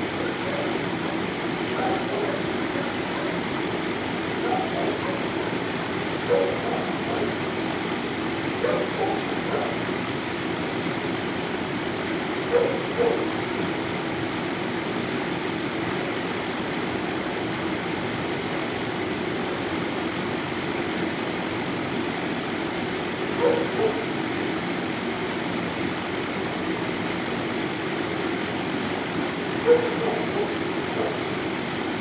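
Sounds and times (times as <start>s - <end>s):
ventilation hum and hiss: 0.0s - 32.0s.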